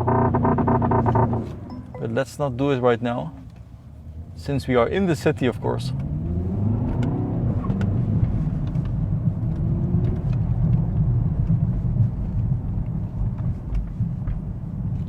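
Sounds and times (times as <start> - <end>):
car engine droning: 0.0 - 15.0
road rumble: 0.0 - 15.0.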